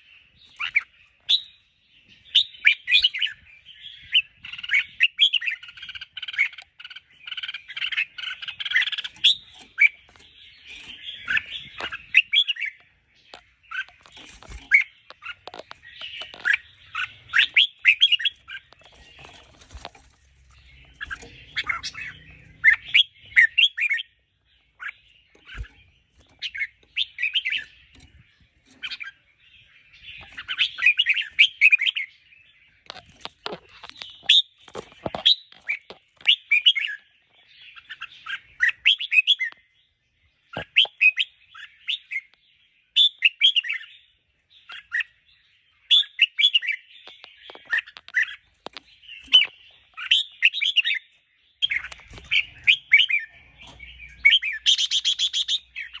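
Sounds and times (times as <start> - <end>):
bulbul singing: 0.4 - 56.0.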